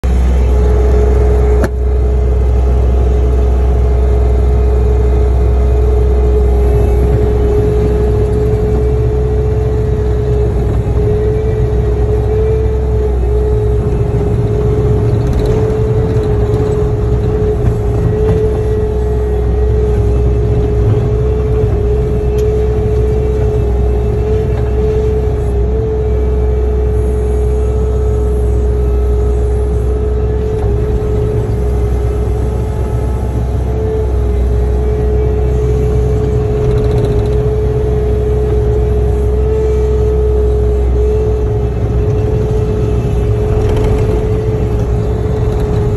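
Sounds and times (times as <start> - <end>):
loader diesel engine and hydraulics: 0.0 - 45.9.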